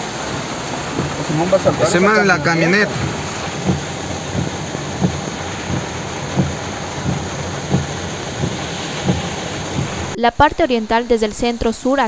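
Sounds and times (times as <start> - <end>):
floodwater rushing: 0.0 - 10.2
heavy rain: 0.0 - 12.0
soft low thumps: 0.4 - 10.2.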